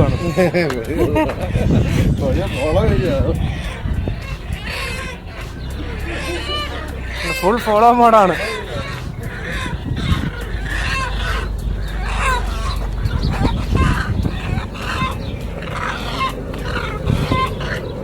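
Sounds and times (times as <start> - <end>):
chickens clucking: 0.0 - 18.0
low rumble: 0.0 - 18.0.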